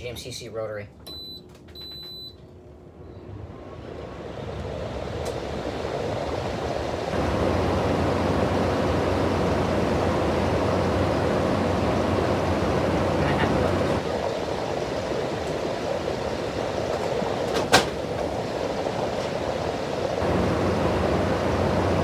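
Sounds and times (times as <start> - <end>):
air conditioner fan rushing: 1.1 - 22.0.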